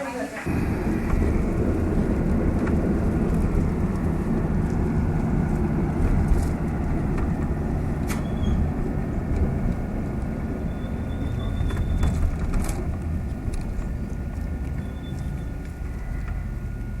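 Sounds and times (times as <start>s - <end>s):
car engine and road noise: 0.4s - 17.0s.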